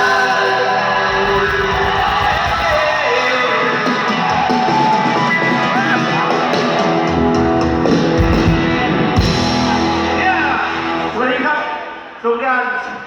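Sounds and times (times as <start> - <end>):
band music with guitar: 0.0 - 12.1.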